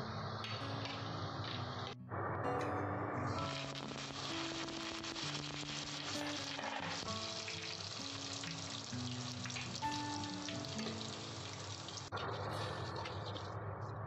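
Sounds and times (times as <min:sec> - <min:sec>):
leaves sizzling in hot oil: 0:00.0 - 0:02.0, 0:03.3 - 0:13.5
background music of held notes: 0:00.0 - 0:11.9.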